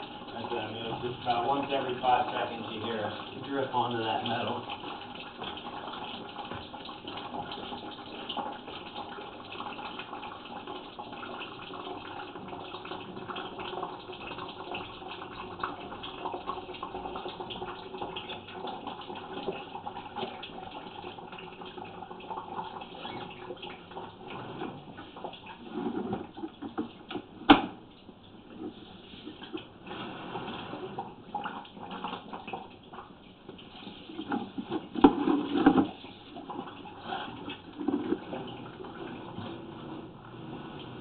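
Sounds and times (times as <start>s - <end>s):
water running down a drain pipe: 0.0s - 41.0s.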